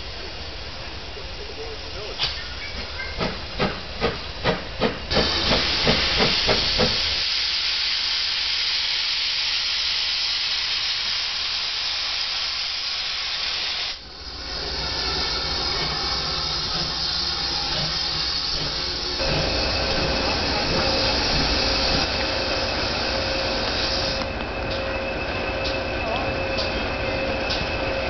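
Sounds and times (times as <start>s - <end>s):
steam hissing from locomotive: 0.0s - 28.0s
sharp steam exhaust beats: 3.2s - 28.0s.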